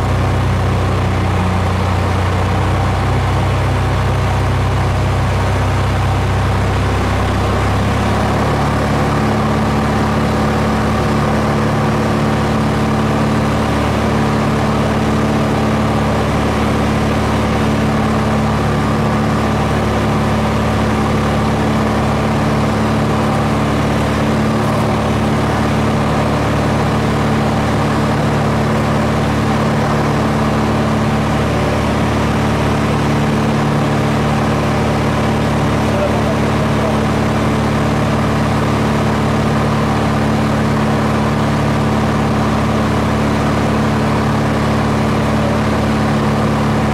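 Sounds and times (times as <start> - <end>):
aircraft propeller engine droning: 0.0 - 46.9.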